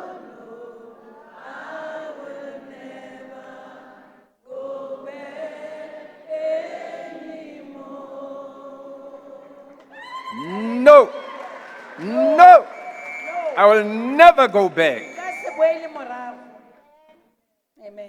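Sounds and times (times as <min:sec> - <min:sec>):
congregation singing: 0:00.0 - 0:16.7.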